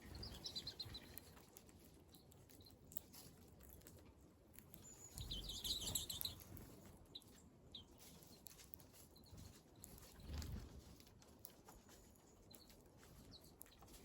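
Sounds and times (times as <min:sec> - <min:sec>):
small birds chirping: 0:00.0 - 0:03.4, 0:04.6 - 0:10.6, 0:11.9 - 0:14.0.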